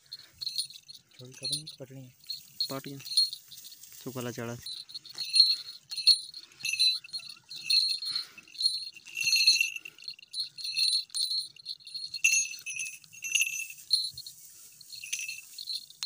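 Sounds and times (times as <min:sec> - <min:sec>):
small bell jingling: 0:00.0 - 0:16.0.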